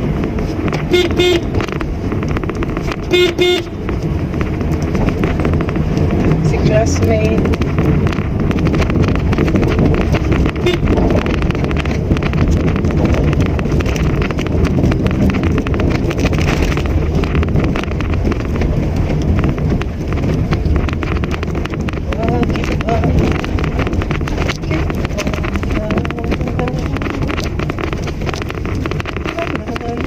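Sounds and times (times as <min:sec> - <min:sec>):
car engine and road noise: 0:00.0 - 0:30.0
wind on microphone: 0:00.0 - 0:30.0.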